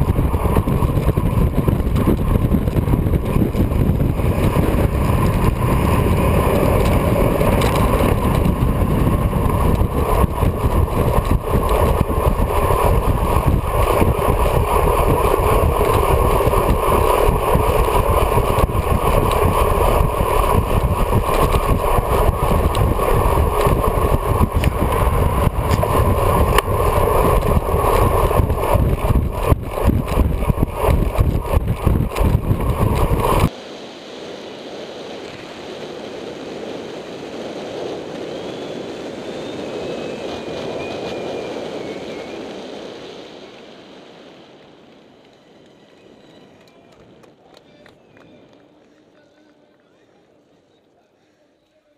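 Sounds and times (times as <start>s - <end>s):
wind rush: 0.0s - 45.2s
road noise: 0.0s - 50.8s.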